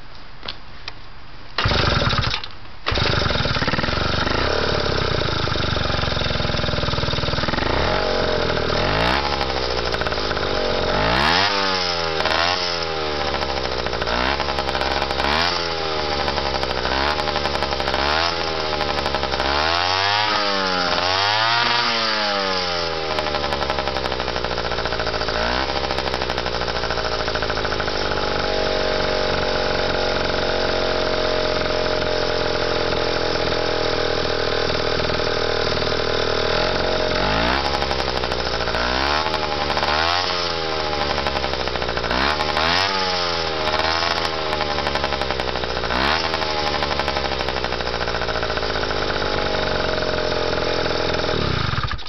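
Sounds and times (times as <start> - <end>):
moped engine revving: 1.6 - 52.0.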